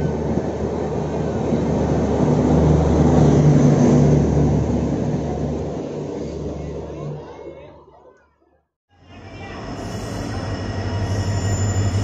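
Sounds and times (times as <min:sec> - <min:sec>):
train rumbling past: 0:00.0 - 0:07.8, 0:09.0 - 0:12.0.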